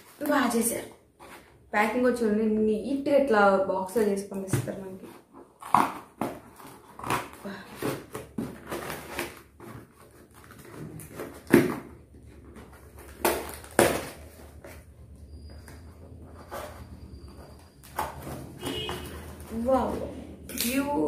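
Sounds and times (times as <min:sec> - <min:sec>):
packaging rustling and scraping: 0:00.0 - 0:01.7, 0:04.7 - 0:20.8.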